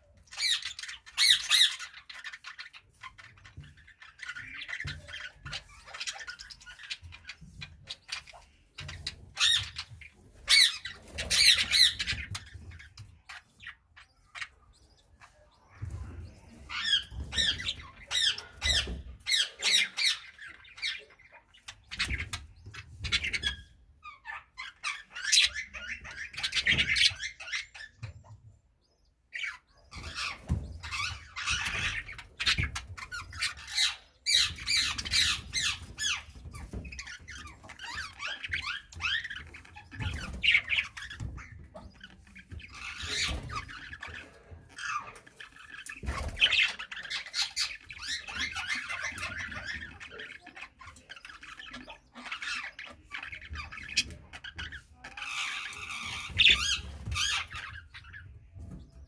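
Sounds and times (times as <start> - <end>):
budgerigars chattering: 0.1 - 59.0.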